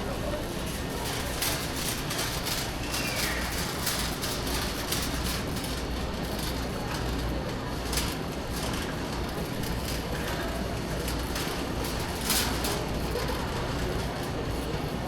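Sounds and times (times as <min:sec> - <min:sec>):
shopping cart rolling: 0:00.1 - 0:15.0.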